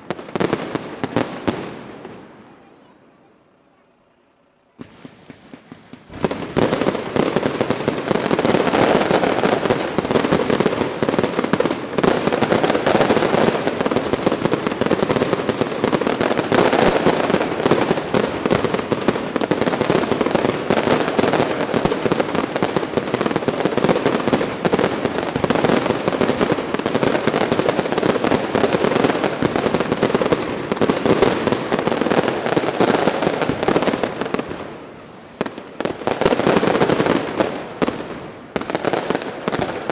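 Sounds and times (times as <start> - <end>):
fireworks bangs and crackles: 0.0 - 3.3, 4.7 - 39.9.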